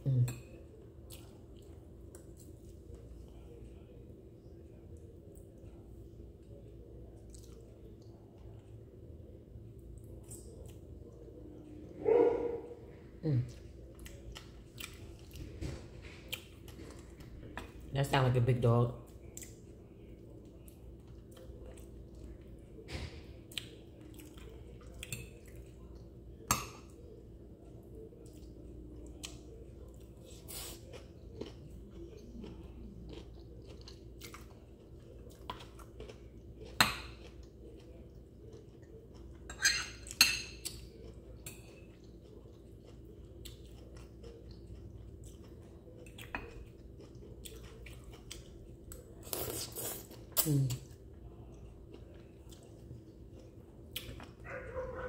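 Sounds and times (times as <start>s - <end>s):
faint steady hum: 0.0s - 55.0s
person chewing: 0.7s - 3.9s, 4.9s - 8.8s, 13.2s - 17.8s, 19.1s - 22.8s, 23.5s - 55.0s.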